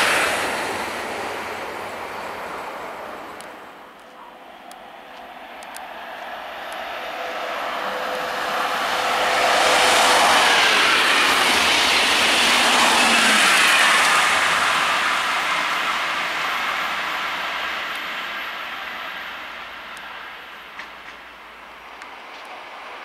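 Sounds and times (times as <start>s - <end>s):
high-speed train passing: 0.0s - 23.0s.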